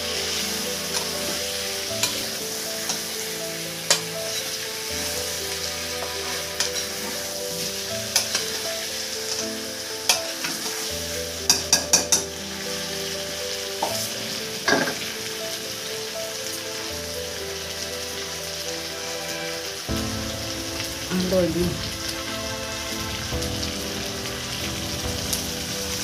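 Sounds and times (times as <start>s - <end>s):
curry sizzling in a wok: 0.0s - 26.0s.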